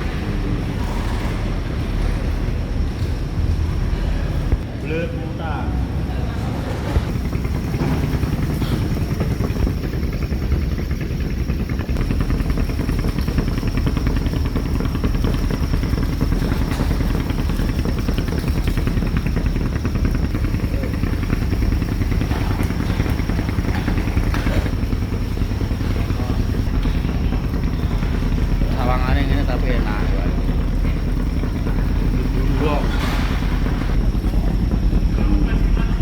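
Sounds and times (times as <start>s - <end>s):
engine running at low speed: 0.0s - 36.0s.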